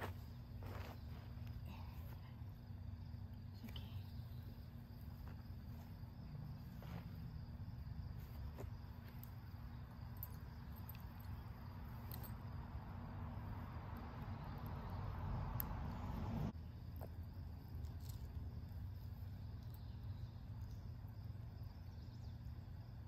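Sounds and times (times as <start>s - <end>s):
constant low rumble: 0.0s - 23.0s
crickets chirring: 0.0s - 23.0s.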